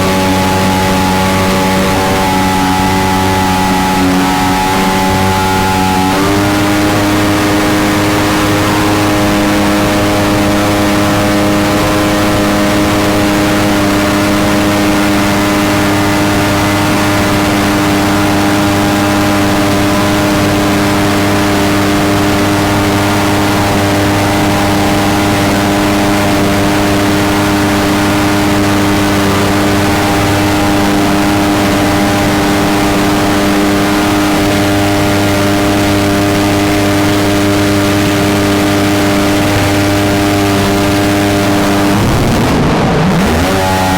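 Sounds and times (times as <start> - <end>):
small boat engine running: 0.0 - 43.9.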